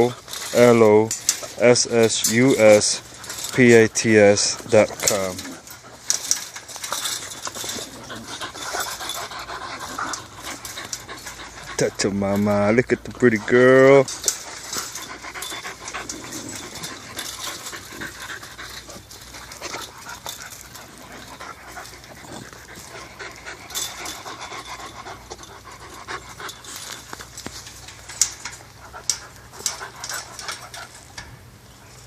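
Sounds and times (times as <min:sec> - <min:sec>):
puppies panting: 0:00.0 - 0:32.0.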